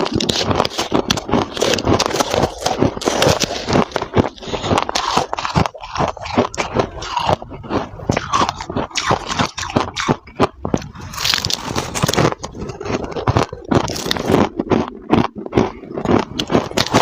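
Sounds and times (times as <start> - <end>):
frost being chewed crunching: 0.0 - 17.0.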